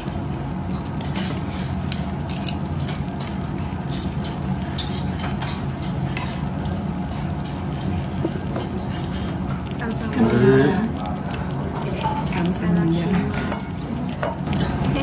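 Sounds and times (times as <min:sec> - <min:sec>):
utensils clinking against metal pot: 0:00.1 - 0:15.0.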